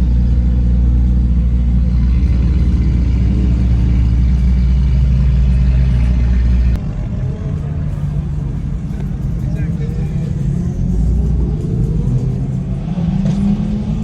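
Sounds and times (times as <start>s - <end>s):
car engine and exhaust rumbling: 0.0s - 14.0s.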